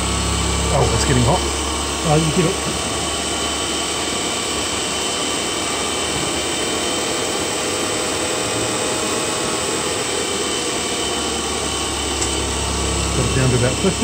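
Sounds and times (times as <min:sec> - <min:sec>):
motor whirring hum: 0:00.0 - 0:14.0.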